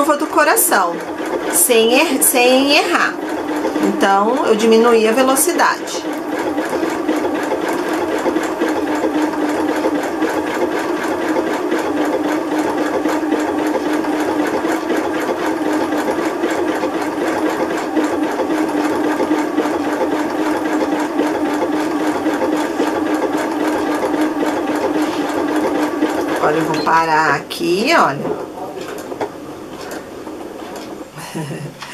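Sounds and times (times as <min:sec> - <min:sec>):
sewing machine stitching: 0:00.0 - 0:31.2.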